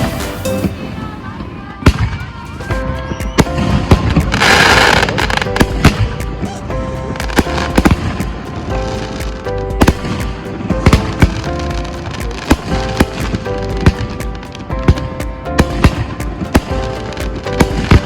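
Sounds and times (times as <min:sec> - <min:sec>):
background music: 0:00.0 - 0:18.0
fireworks bangs and crackling: 0:00.0 - 0:18.0.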